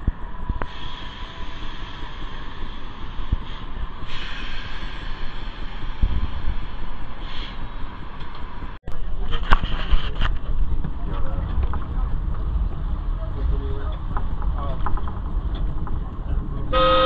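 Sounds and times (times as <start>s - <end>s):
streetcar rumbling on rails: 0.0s - 17.0s.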